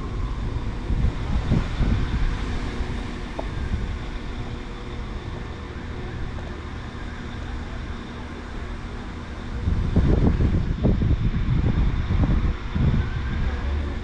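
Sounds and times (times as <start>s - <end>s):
steady hum: 0.0s - 14.0s
train low rumble: 0.0s - 14.0s.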